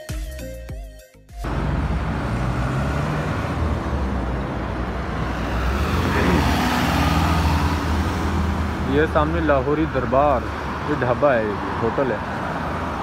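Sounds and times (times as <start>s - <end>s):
traffic rumble with tyre noise: 1.4s - 13.0s
vehicle passing close: 1.5s - 13.0s.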